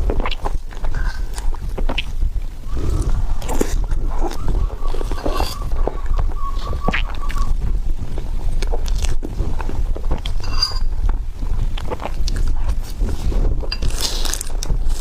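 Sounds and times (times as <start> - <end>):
close chewing mouth sounds: 0.0 - 15.0.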